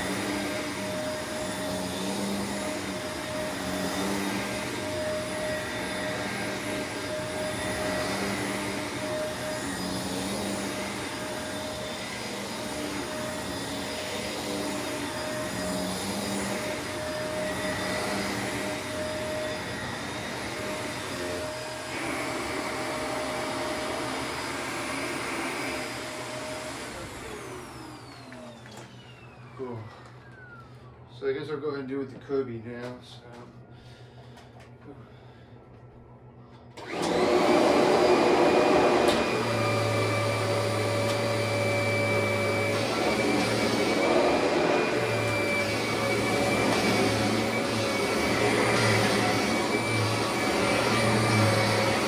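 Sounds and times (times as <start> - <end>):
upright vacuum cleaner running: 0.0 - 31.7, 36.7 - 52.0.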